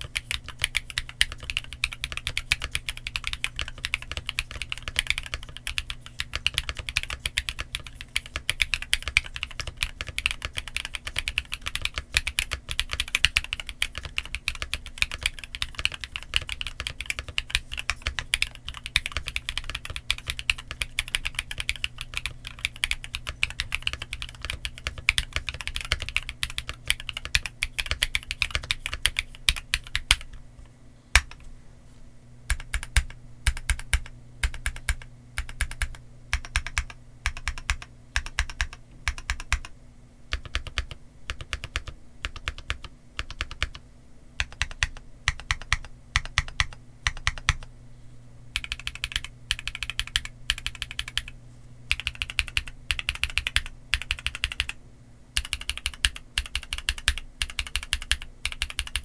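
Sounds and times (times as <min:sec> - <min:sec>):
mechanical keyboard typing: 0:00.0 - 0:30.4, 0:32.5 - 0:39.7, 0:40.3 - 0:43.8, 0:44.4 - 0:47.7, 0:48.5 - 0:54.8, 0:55.4 - 0:59.0.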